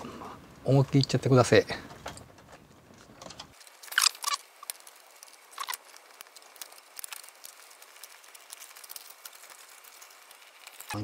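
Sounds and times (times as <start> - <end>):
thin metal clicking and crackling: 0.5 - 11.0.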